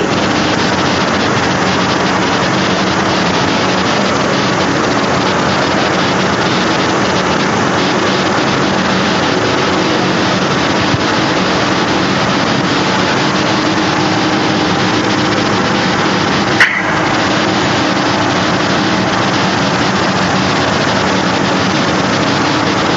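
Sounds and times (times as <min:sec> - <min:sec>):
loud rushing noise: 0:00.0 - 0:22.9
low engine hum: 0:00.0 - 0:22.9.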